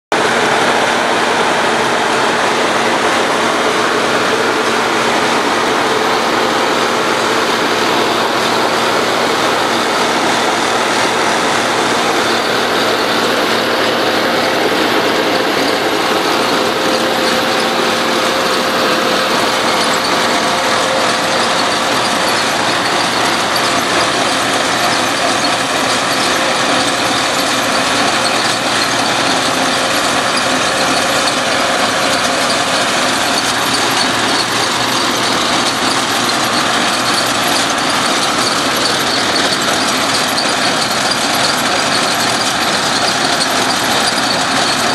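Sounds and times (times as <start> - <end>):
trencher engine and digging chain: 0.1 - 44.9.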